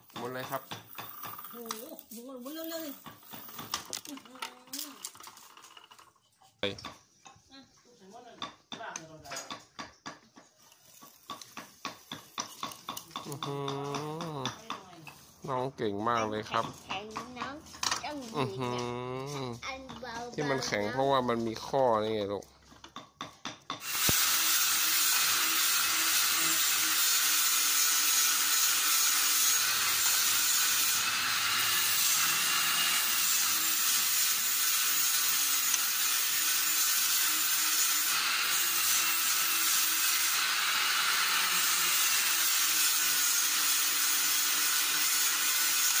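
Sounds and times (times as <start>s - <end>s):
slicing machine cutting bamboo: 0.0s - 6.2s, 10.7s - 19.4s, 23.8s - 46.0s.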